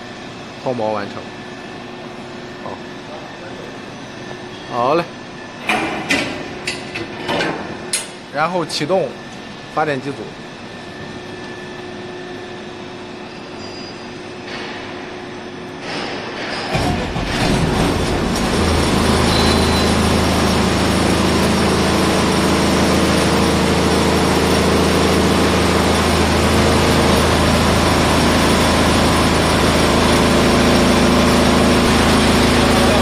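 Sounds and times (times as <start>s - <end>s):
generator engine starting and running: 0.0s - 13.3s, 14.4s - 33.0s.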